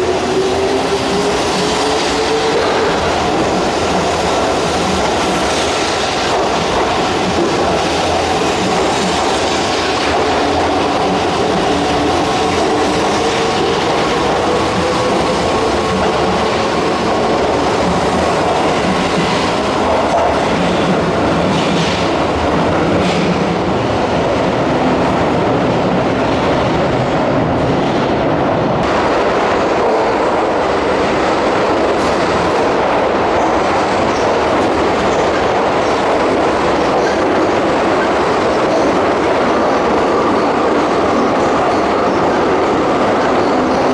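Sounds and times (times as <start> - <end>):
train wheels clattering on rails: 0.0 - 27.1, 28.8 - 43.9.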